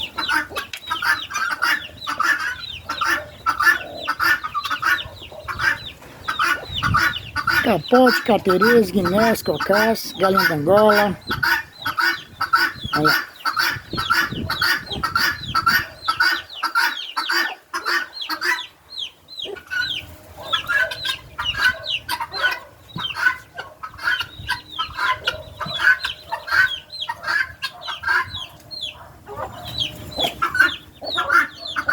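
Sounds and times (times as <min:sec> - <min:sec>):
guineafowl flock calling: 0:00.0 - 0:31.9.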